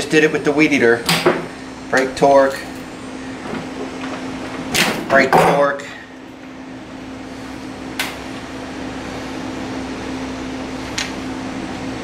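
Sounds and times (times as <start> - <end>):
fan-like hum and hiss: 0.0 - 12.0.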